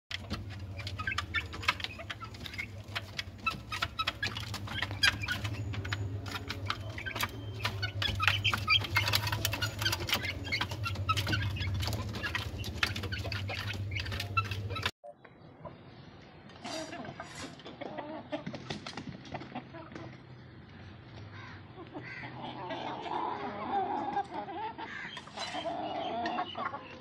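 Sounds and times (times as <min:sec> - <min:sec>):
chickens clucking and chirping: 0:00.1 - 0:27.0.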